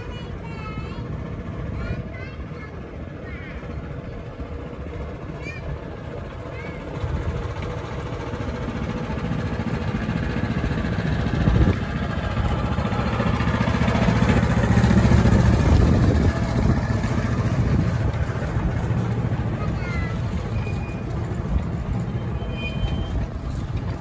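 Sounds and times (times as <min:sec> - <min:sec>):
small diesel engine running: 0:00.0 - 0:24.0.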